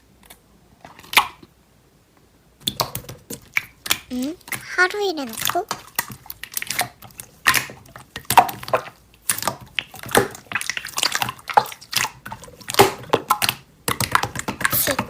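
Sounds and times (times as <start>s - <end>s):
slime clicking and popping: 2.6s - 15.0s.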